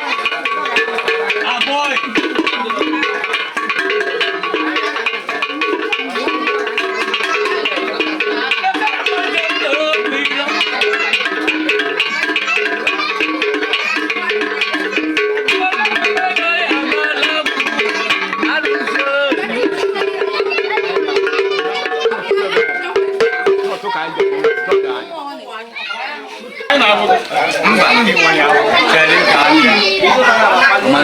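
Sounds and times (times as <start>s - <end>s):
fast percussion: 0.0s - 25.5s, 26.7s - 31.0s
repeating pitched melody: 0.2s - 25.3s.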